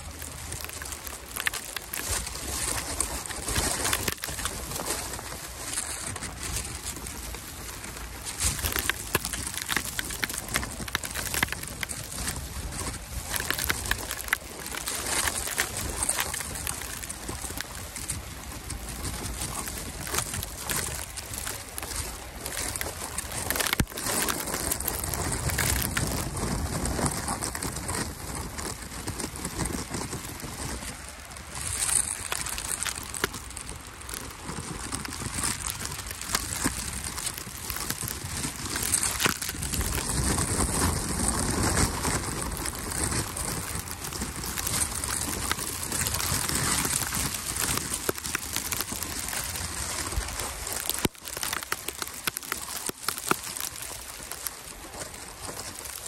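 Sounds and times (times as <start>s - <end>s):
footsteps crunching through snow: 0.0s - 56.0s.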